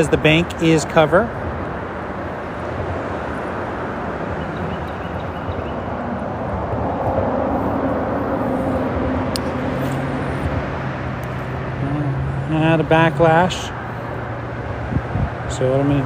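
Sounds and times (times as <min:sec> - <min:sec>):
freeway traffic noise: 0:00.0 - 0:16.0
vehicle engine hum: 0:00.0 - 0:16.0.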